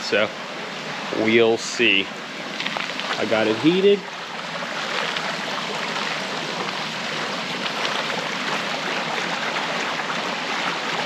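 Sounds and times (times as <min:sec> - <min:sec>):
hot tub water bubbling: 0:00.0 - 0:11.0.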